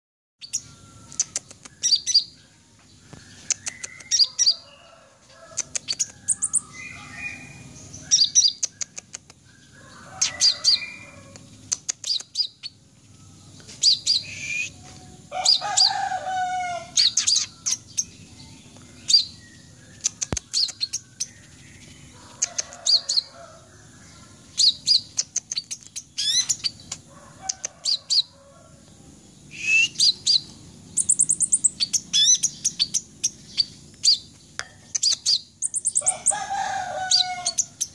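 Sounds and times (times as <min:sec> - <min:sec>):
bird chirping and trilling: 0:00.4 - 0:28.4, 0:29.4 - 0:37.9.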